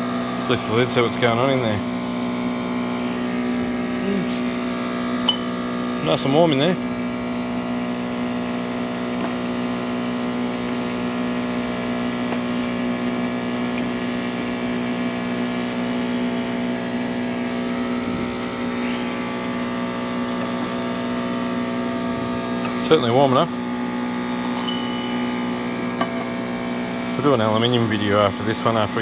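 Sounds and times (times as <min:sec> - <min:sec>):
induction furnace humming: 0:00.0 - 0:29.0.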